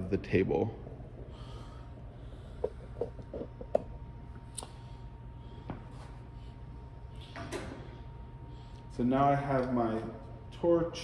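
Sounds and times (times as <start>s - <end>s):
faint constant whine: 0.0s - 11.0s
steady low hum: 0.0s - 11.0s.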